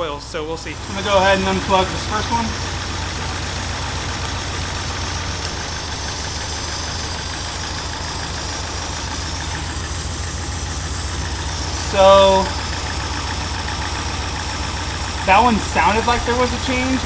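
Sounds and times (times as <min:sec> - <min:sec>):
engine idling roughly: 0:00.0 - 0:17.0.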